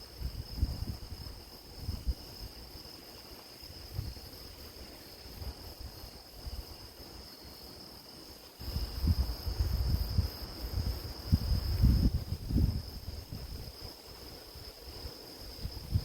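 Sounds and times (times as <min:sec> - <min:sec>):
wind rumbling on microphone: 0:00.0 - 0:07.4, 0:08.6 - 0:16.0
grass insects trilling: 0:00.0 - 0:16.0.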